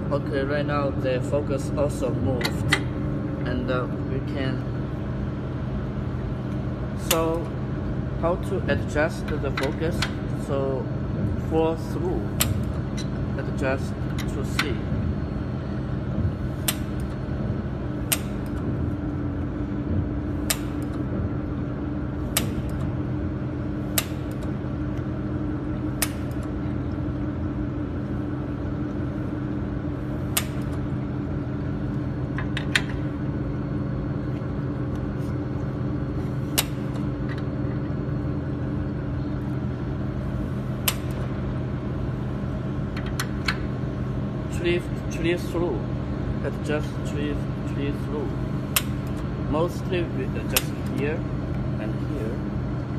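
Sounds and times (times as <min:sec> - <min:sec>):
machine humming: 0:00.0 - 0:52.9.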